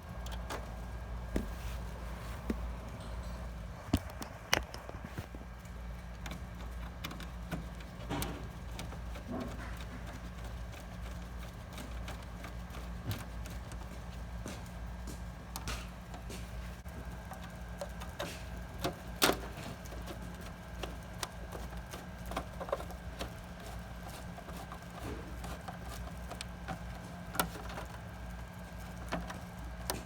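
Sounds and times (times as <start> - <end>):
steady low hum: 0.0 - 30.0
plastic parts clicking and knocking: 2.9 - 30.0.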